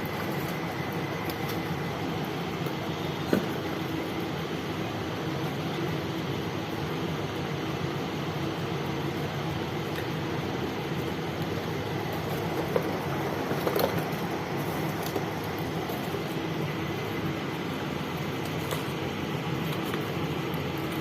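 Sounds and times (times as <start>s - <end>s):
fan whirring hum: 0.0s - 21.0s.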